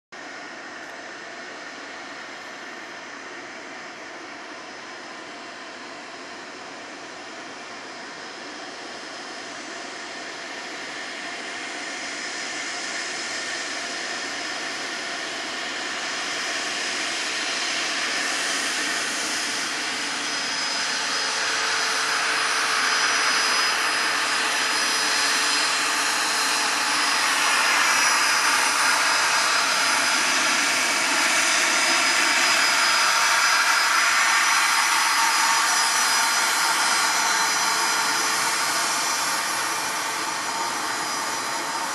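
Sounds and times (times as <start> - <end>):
jet engines whining: 1.0 - 41.9.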